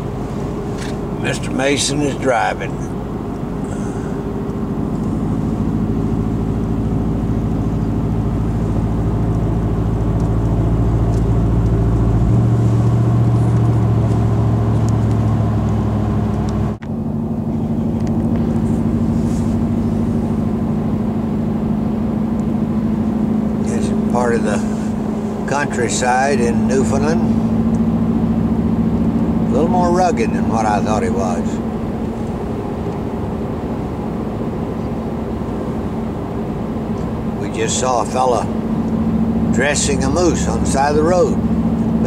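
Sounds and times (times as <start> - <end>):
engine and tyre drone in car: 0.0 - 42.0.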